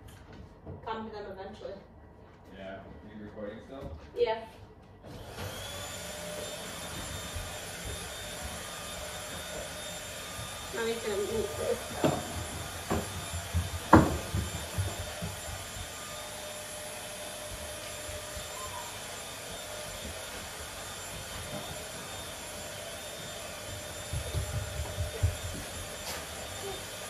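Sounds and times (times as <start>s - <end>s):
footsteps on hardwood floor: 2.1s - 27.0s
steady whirring: 5.1s - 27.0s.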